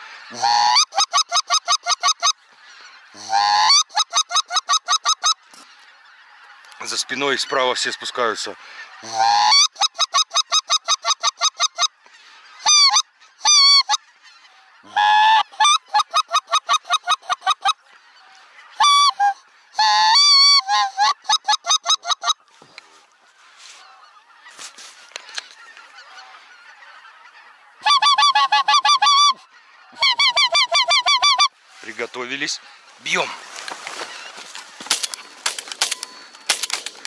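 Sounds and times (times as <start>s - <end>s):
goose honking: 0.0s - 37.0s.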